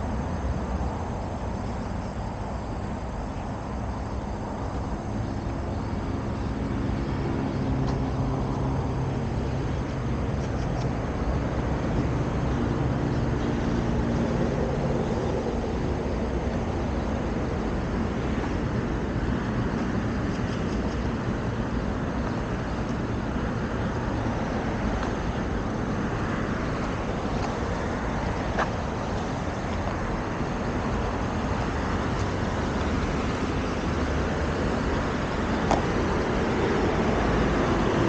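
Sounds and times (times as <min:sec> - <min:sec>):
road traffic rumble: 0:00.0 - 0:38.0
vehicle engine hum: 0:00.0 - 0:38.0.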